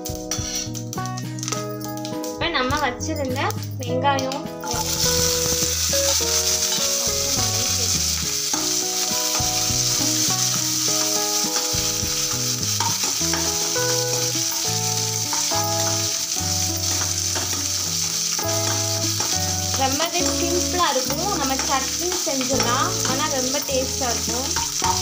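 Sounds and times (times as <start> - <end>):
onions sizzling in hot oil: 0.0 - 1.1, 4.6 - 25.0.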